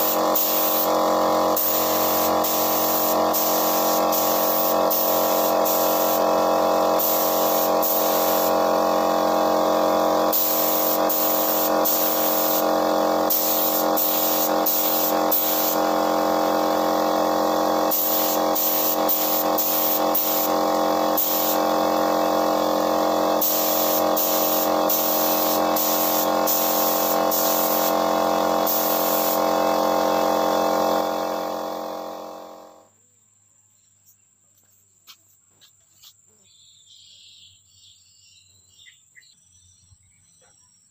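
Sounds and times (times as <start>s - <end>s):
air compressor hum: 0.0s - 32.8s
spray gun hissing: 0.0s - 32.8s.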